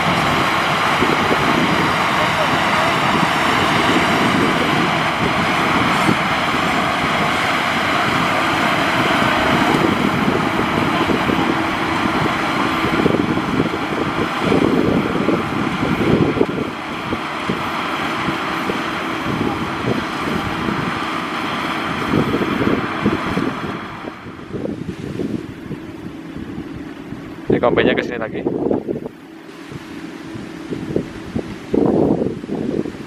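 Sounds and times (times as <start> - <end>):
combine harvester running: 0.0 - 33.0
wind buffeting microphone: 0.0 - 33.0.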